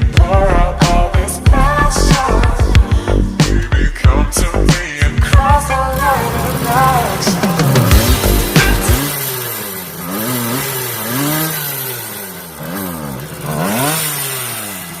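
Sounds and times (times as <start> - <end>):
moped engine revving: 0.0 - 15.0.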